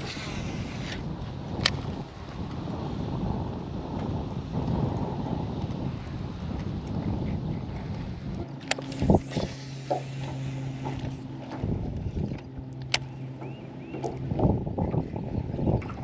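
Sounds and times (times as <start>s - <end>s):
electric boat motor humming: 0.0s - 16.0s
wind buffeting microphone: 0.0s - 16.0s.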